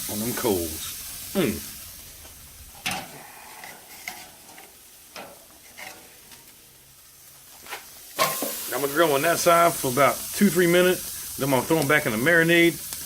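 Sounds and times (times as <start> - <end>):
steaks sizzling over charcoal: 0.0 - 13.0.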